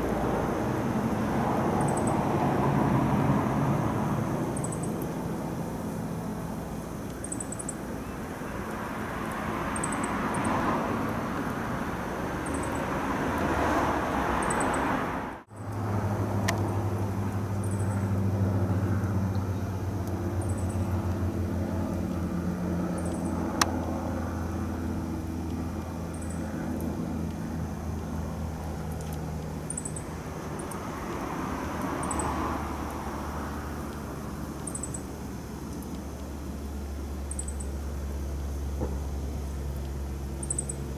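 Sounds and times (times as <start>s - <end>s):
helicopter flying overhead: 0.0s - 14.5s, 15.6s - 35.7s
propeller airliner droning overhead: 0.0s - 40.9s.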